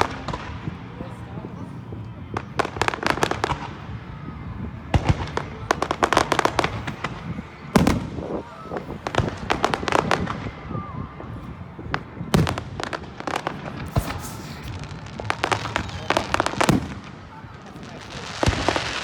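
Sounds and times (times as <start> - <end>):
fireworks bangs: 0.0 - 19.0
fireworks crackling pops: 0.0 - 19.0.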